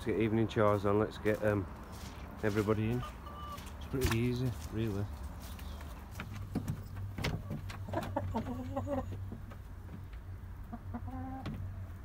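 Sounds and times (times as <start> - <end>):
hens clucking: 0.2 - 12.0.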